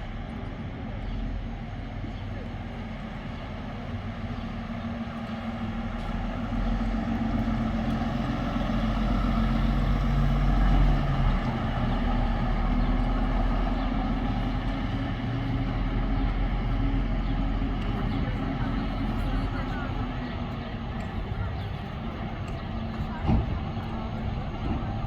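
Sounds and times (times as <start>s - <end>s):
heavy vehicle humming: 0.0s - 25.0s.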